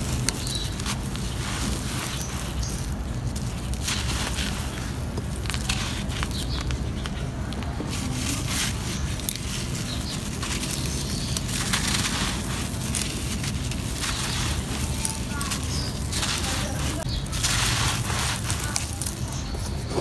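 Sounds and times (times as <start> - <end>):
grit pouring: 0.0 - 7.1, 7.9 - 20.0
sand blocks crunching: 0.0 - 20.0.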